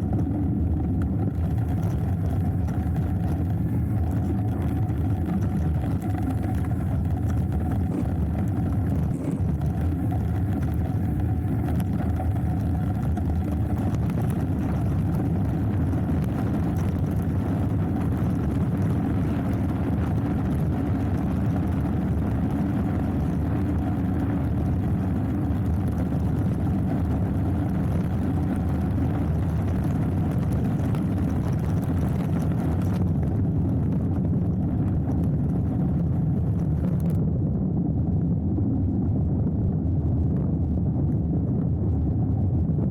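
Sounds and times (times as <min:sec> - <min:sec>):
wind on microphone: 0:00.0 - 0:42.9.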